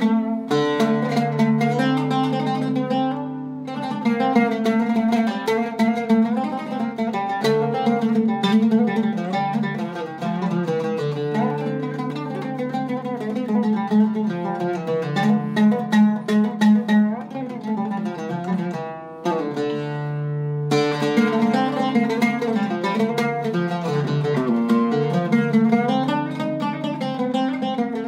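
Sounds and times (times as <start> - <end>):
solo oud plucking: 0.0 - 28.0.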